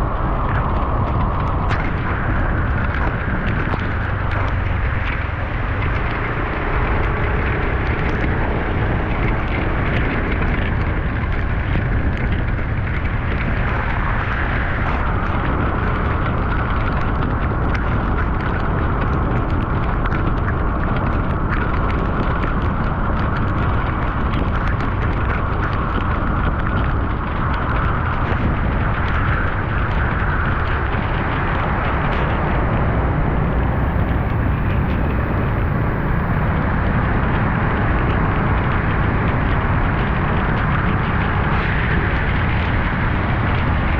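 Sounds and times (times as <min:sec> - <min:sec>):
vehicle driving through water: 0:00.3 - 0:12.2, 0:12.8 - 0:43.9.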